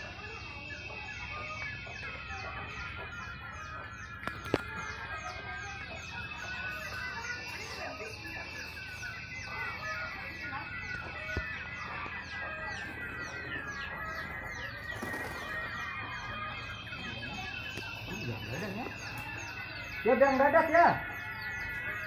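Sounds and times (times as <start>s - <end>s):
birds calling: 0.0s - 22.0s
chickens clucking: 0.0s - 22.0s
high falling chirps: 0.0s - 22.0s
steady high tone: 0.0s - 22.0s.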